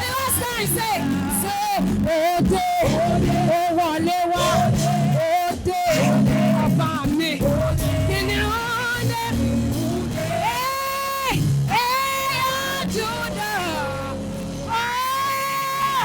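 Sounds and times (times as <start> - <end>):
band playing gospel music: 0.0 - 16.0
person singing: 0.0 - 16.0.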